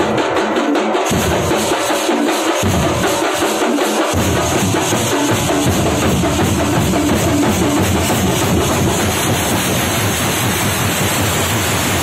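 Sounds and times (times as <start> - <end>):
deep drum: 0.0 - 1.9, 2.5 - 3.5, 4.1 - 12.0
drum ensemble playing: 0.0 - 12.0.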